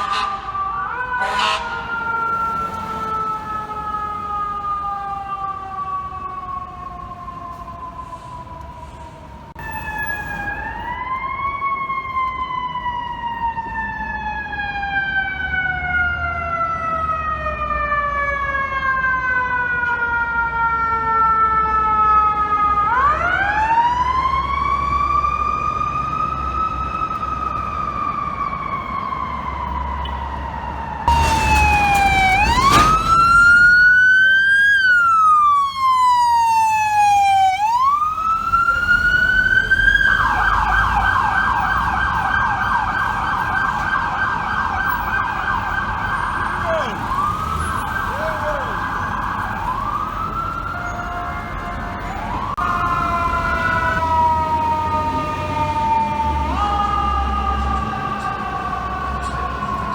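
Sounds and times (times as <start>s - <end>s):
fire truck siren wailing: 0.0s - 59.9s
siren blast: 0.0s - 59.9s.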